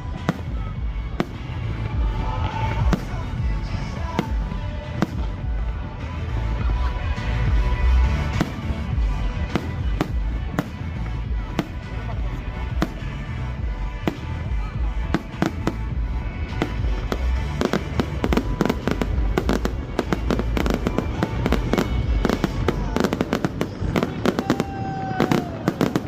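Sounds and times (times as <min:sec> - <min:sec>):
fireworks bangs and crackling: 0:00.0 - 0:26.0
music playing: 0:00.0 - 0:26.0.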